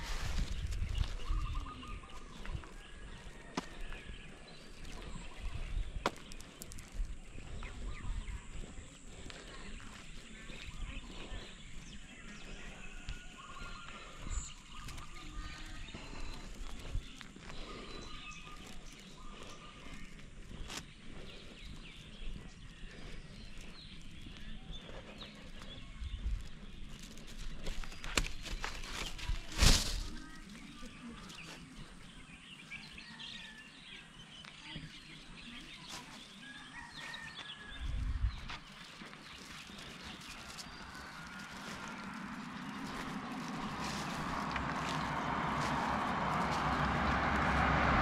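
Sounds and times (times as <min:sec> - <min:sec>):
faint birds chirping: 0:00.0 - 0:48.0.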